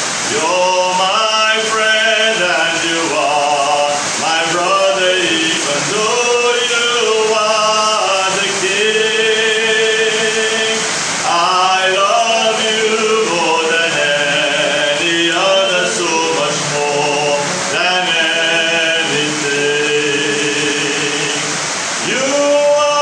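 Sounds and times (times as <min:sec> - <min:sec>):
man singing into a microphone: 0:00.3 - 0:23.0.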